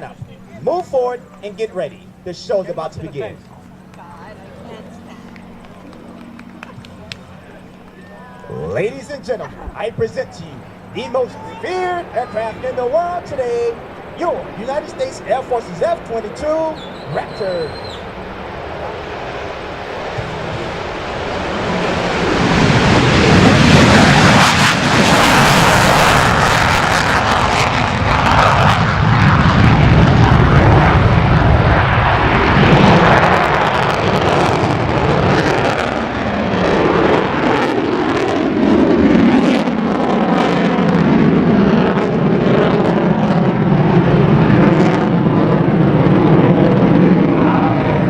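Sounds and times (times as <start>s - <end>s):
jet engines roaring past: 0.0s - 48.0s.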